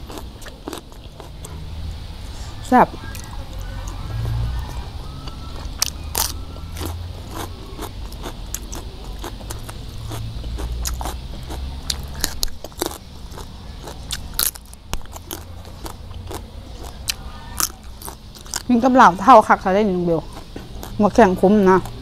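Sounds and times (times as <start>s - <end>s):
crunching raw vegetables: 0.0s - 22.0s.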